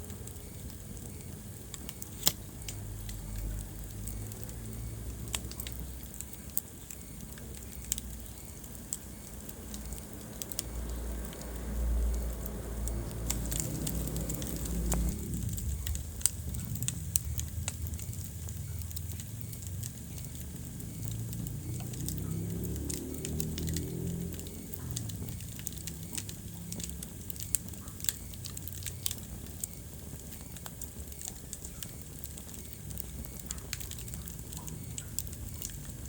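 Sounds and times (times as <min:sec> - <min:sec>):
fire flames rumbling: 0:00.0 - 0:36.0
wood fire crackling and popping: 0:00.0 - 0:36.0.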